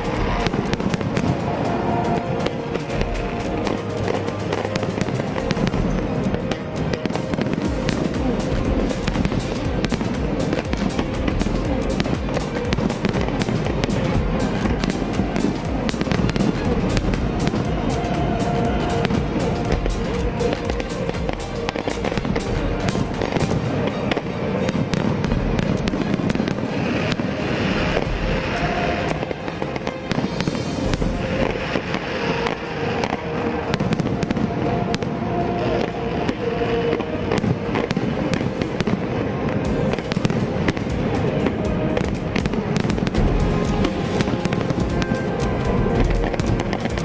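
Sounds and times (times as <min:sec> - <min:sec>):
fireworks exploding and crackling: 0:00.0 - 0:47.0
music playing: 0:00.0 - 0:47.0.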